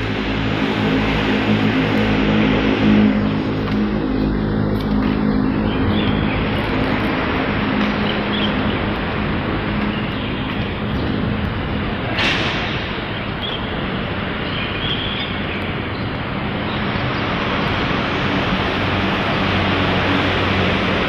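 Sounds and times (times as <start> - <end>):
faint low engine hum: 0.0 - 21.0
street traffic rumble and hiss: 0.0 - 21.0
traffic rush: 0.0 - 21.0.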